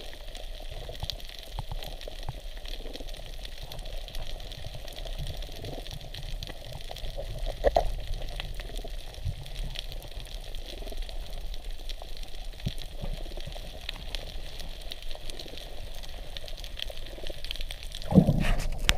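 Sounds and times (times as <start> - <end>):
faint clicks and crackles: 0.0 - 18.9
muffled underwater wash: 0.0 - 18.9.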